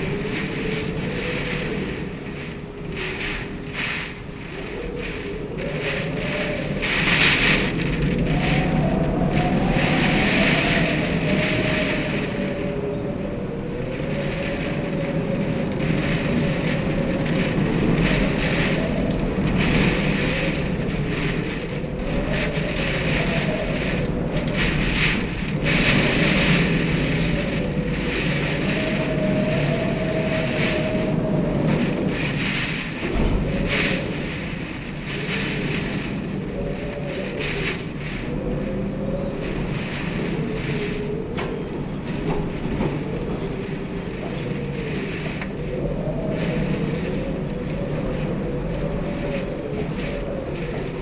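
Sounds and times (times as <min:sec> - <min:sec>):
rain: 0:00.0 - 0:51.0
strong gusting wind: 0:00.0 - 0:51.0
wind whistling: 0:00.0 - 0:51.0.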